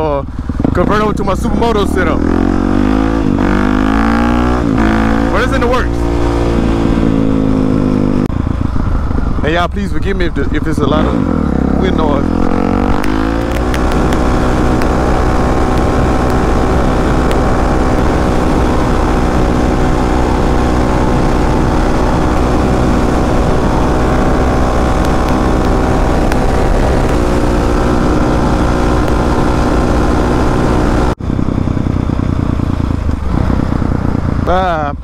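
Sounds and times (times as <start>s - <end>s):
dirt bike engine running: 0.0s - 35.0s
wind noise on microphone: 6.0s - 35.0s.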